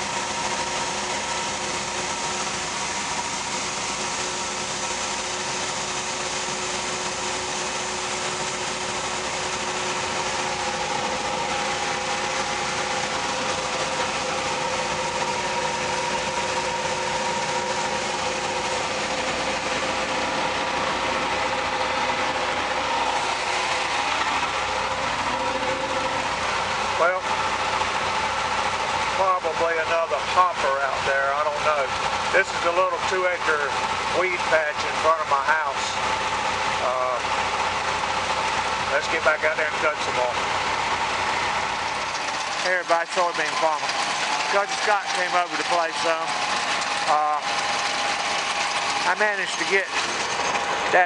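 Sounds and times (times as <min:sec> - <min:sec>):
auger whine: 0:00.0 - 0:51.0
combine harvester machinery drone: 0:00.0 - 0:51.0.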